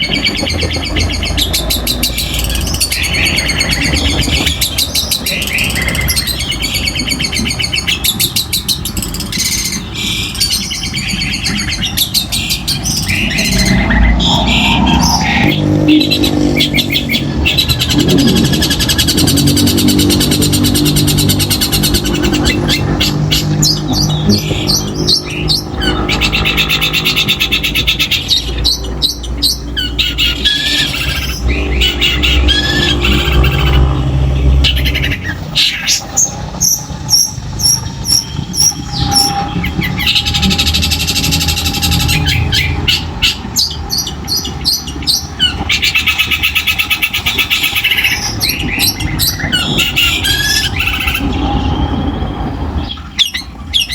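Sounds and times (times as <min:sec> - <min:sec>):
bird singing harsh high notes: 0:00.0 - 0:53.9.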